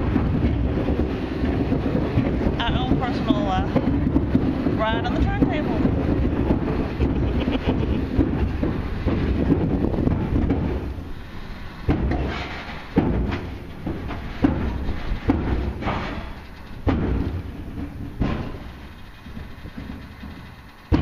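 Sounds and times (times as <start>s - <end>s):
turntable low rumble: 0.0s - 21.0s.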